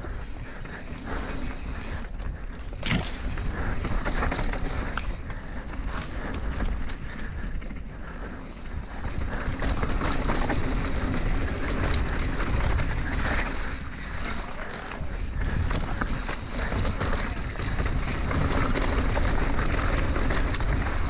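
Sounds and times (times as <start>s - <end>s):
bike chain and frame rattling: 0.0s - 21.0s
knobby tyres on packed dirt: 0.0s - 21.0s.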